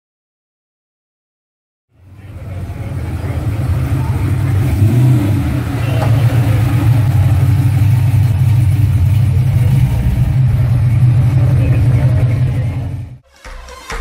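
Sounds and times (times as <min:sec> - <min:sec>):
car engine deep rumble: 0:02.0 - 0:13.2.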